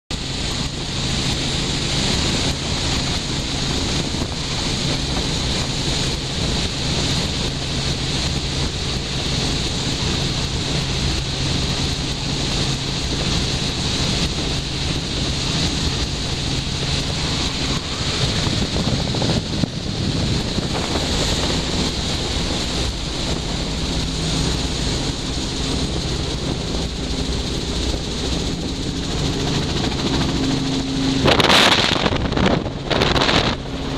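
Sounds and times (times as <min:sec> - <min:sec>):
helicopter engine and rotor drone: 0:00.1 - 0:33.9
higher steady hum: 0:00.1 - 0:33.9
wind rushing over microphone: 0:00.1 - 0:33.9.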